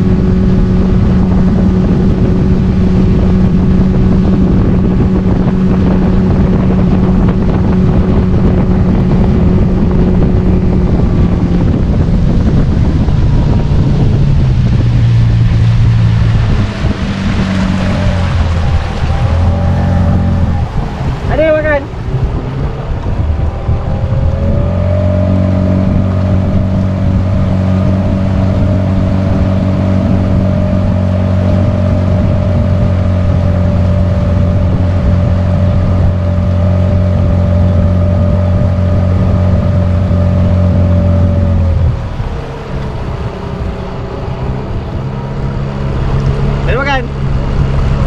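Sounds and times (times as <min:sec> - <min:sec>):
outboard motor running: 0:00.0 - 0:48.0.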